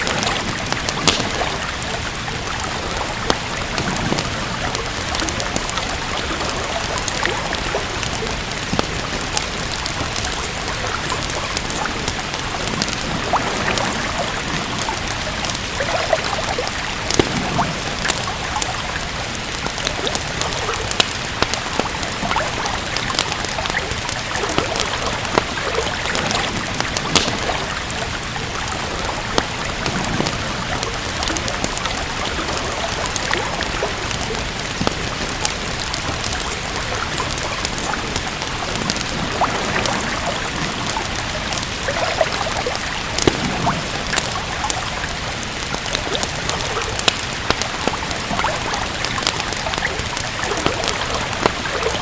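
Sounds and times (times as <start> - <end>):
fireplace crackling: 0.0 - 52.0
steady rain falling: 0.0 - 52.0.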